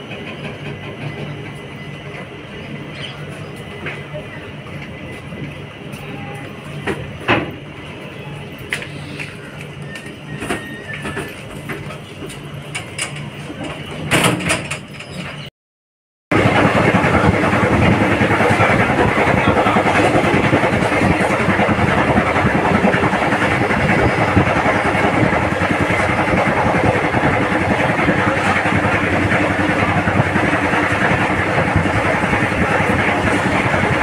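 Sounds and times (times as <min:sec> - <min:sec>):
train wheels rumbling on rails: 0:00.0 - 0:15.5, 0:16.3 - 0:34.0.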